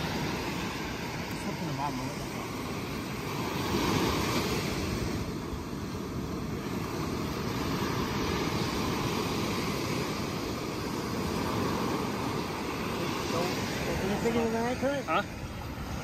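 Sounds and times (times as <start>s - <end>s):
surf rushing on a beach: 0.0s - 16.0s
wind noise on microphone: 0.0s - 16.0s.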